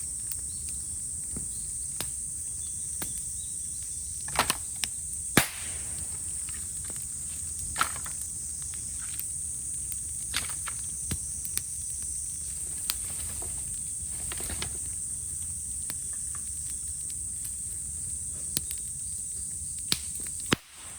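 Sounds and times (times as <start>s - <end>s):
cicadas droning: 0.0s - 20.9s
fire crackling and popping: 0.0s - 20.9s.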